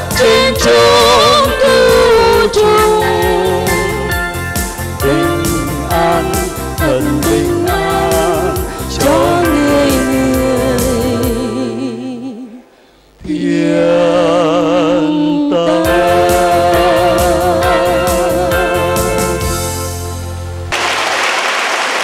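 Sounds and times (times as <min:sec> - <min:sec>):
man and woman singing: 0:00.0 - 0:04.2, 0:05.0 - 0:19.5
backing track music: 0:00.0 - 0:13.2, 0:15.7 - 0:20.8.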